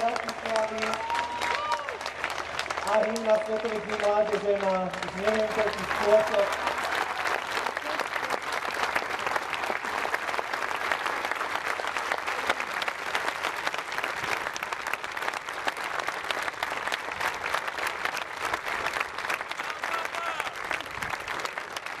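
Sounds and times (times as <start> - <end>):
large crowd applauding: 0.0 - 22.0.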